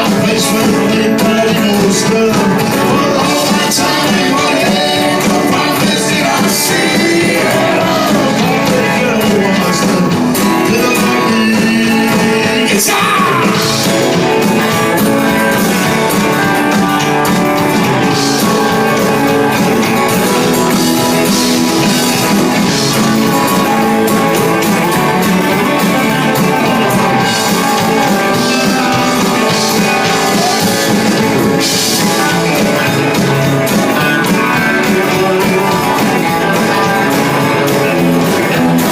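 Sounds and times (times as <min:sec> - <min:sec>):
live country-rock band: 0:00.0 - 0:38.9
person singing: 0:00.0 - 0:38.9.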